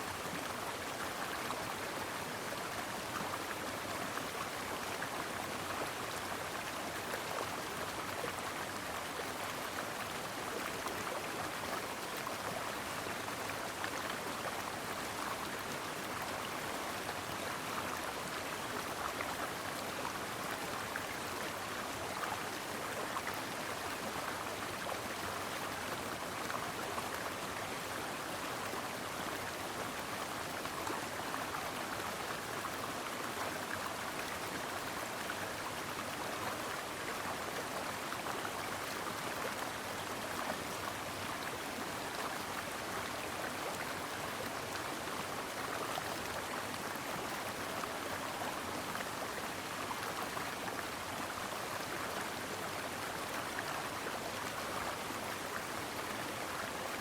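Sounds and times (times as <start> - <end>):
brook flowing over rocks: 0.0 - 57.0.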